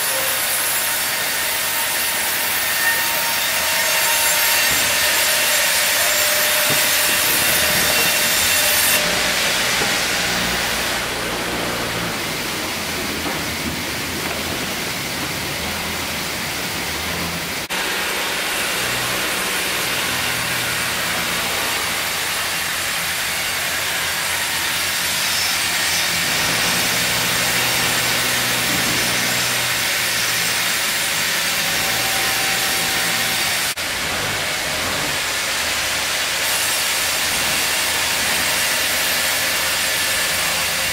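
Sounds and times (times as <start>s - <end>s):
band saw cutting through log: 0.0s - 40.9s.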